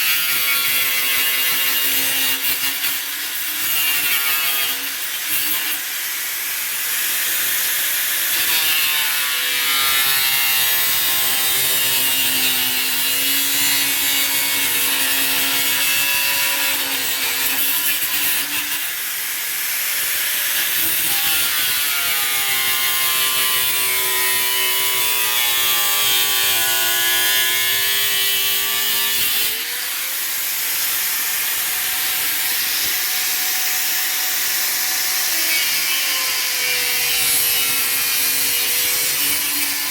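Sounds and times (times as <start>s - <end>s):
angle grinder cutting plastic: 0.0s - 39.9s.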